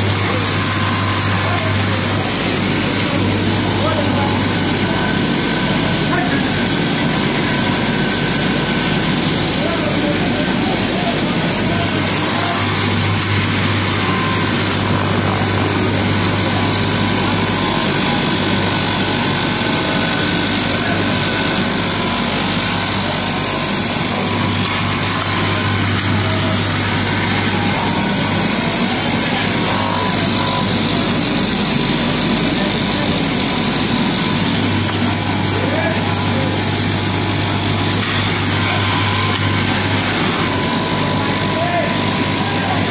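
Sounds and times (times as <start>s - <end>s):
cloth cutting machine running: 0.0s - 42.9s.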